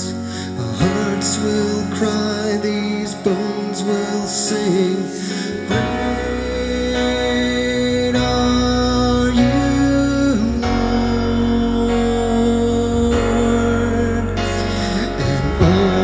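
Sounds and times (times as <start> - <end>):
electric keyboard: 0.0 - 16.0
man singing: 0.0 - 16.0.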